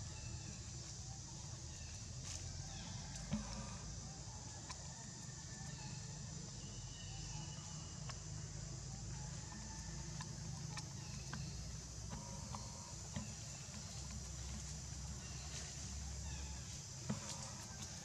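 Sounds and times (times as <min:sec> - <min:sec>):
faint chirps: 0:00.0 - 0:18.0.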